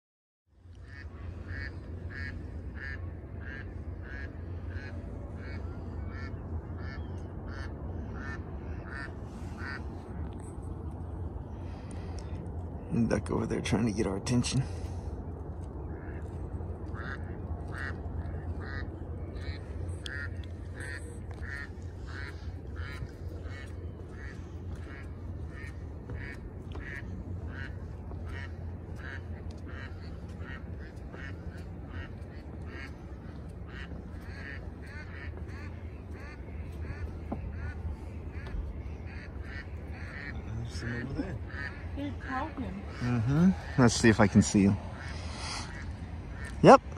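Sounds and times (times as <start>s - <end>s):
duck quacking: 0.8s - 9.8s, 17.0s - 44.4s, 45.0s - 46.6s.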